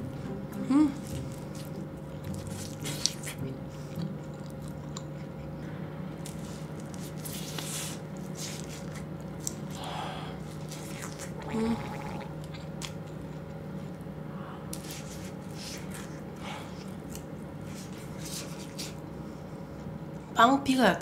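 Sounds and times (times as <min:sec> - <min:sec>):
steady low hum: 0:00.0 - 0:21.0
chewing crunchy food: 0:01.0 - 0:05.6, 0:06.2 - 0:14.1, 0:14.7 - 0:19.1.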